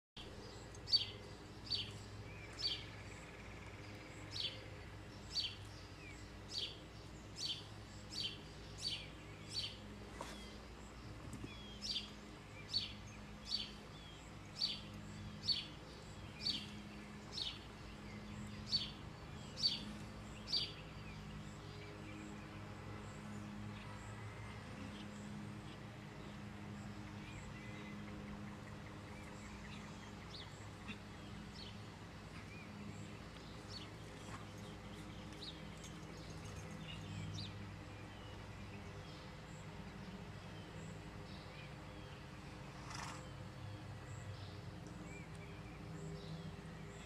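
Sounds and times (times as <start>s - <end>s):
bird chirping: 0.2s - 47.0s.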